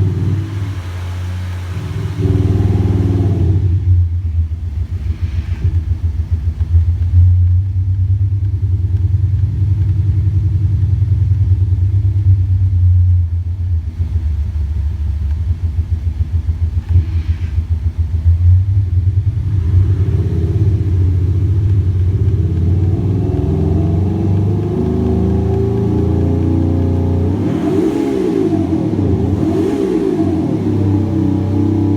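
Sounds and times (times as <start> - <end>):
deep engine rumble revving: 0.0 - 31.9.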